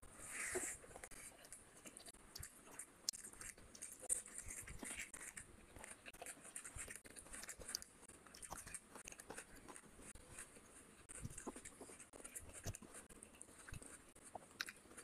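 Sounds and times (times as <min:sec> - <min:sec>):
mouth chewing food: 0:00.8 - 0:15.0.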